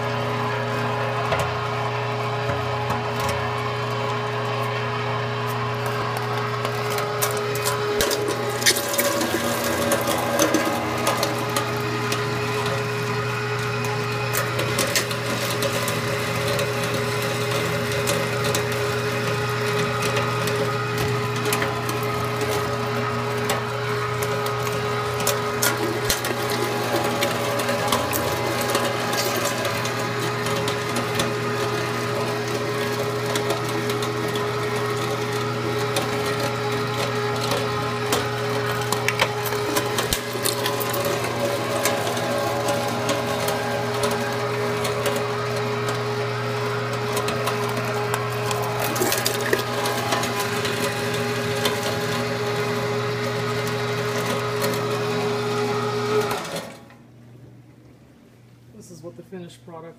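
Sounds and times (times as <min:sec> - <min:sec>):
food grinder motor hum: 0:00.0 - 0:57.0.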